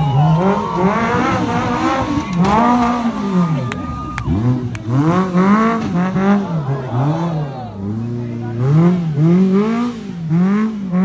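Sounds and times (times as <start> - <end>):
engine revving up and down: 0.0 - 11.0.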